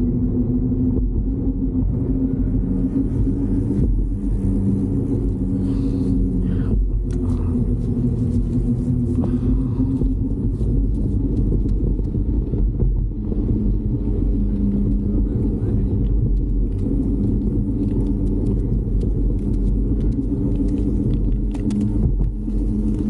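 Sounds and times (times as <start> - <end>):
road noise: 0.0 - 23.0
wind rumble on microphone: 0.0 - 23.0.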